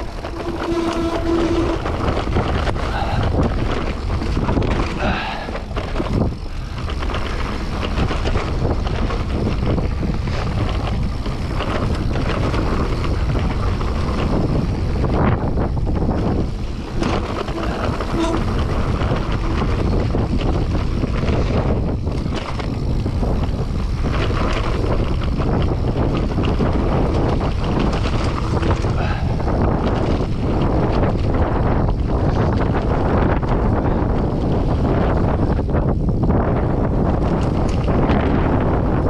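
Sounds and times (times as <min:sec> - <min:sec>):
bike knocks and rattles: 0:00.0 - 0:39.0
bike tyre noise: 0:00.0 - 0:39.0
wind rushing over microphone: 0:00.0 - 0:39.0.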